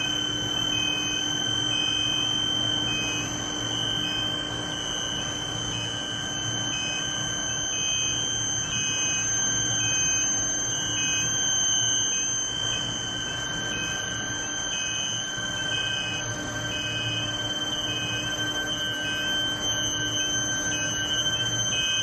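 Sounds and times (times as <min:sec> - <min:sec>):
induction furnace electrical whine: 0:00.0 - 0:22.0
pulsing electrical tone: 0:00.0 - 0:22.0.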